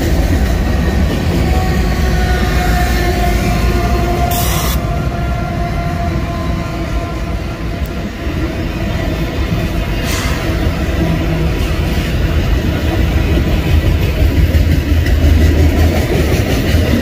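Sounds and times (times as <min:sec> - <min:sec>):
diesel locomotive passing: 0:00.0 - 0:17.0
train wheels rumbling: 0:00.0 - 0:17.0.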